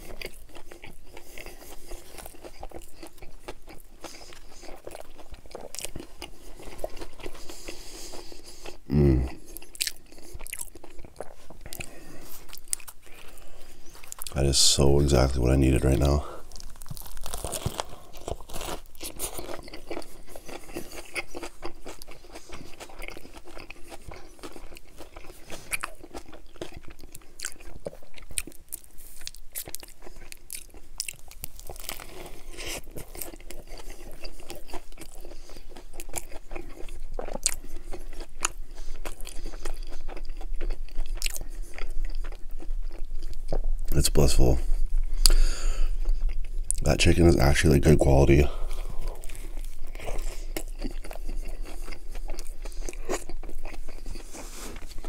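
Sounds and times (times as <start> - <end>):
crunchy sandwich chewing: 0.0 - 55.0.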